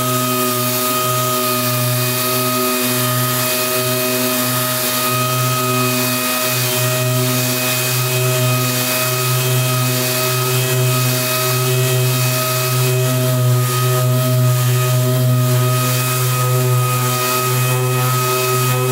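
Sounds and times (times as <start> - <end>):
orbital sander whirring: 0.0 - 18.9.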